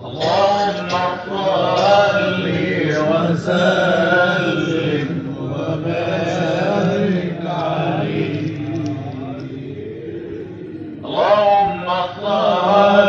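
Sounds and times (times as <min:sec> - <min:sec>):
men chanting a devotional hymn: 0:00.0 - 0:13.0.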